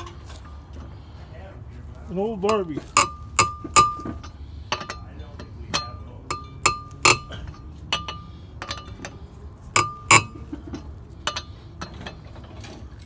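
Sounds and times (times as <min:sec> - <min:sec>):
lug wrench clinking on metal: 0:00.0 - 0:01.1, 0:02.2 - 0:13.0.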